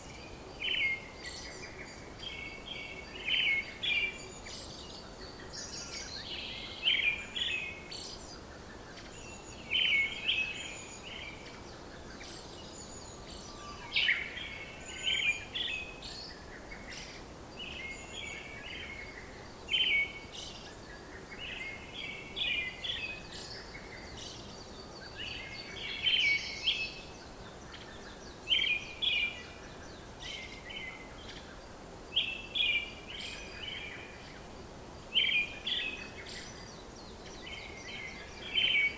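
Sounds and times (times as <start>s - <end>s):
faint outdoor hiss: 0.0s - 38.9s
songbirds chirping: 0.0s - 38.9s.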